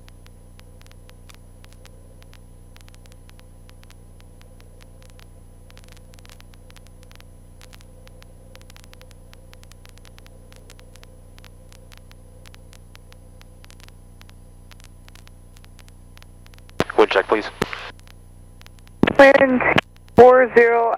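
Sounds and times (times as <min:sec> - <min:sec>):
crackling static clicks: 0:00.0 - 0:20.9
radio low hum: 0:00.0 - 0:20.9.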